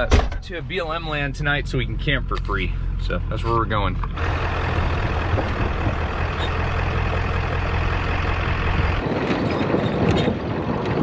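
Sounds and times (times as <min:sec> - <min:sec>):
rough irregular truck noise: 0:00.0 - 0:11.0
truck engine droning: 0:00.5 - 0:11.0.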